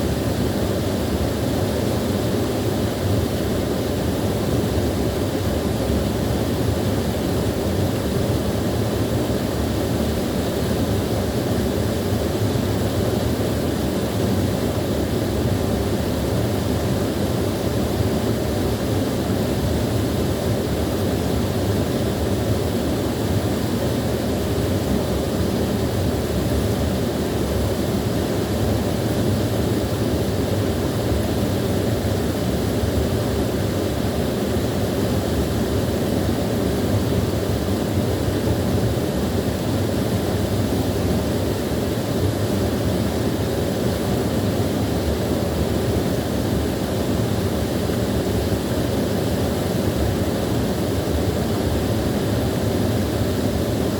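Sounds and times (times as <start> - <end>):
small waterfall rushing: 0.0 - 53.9.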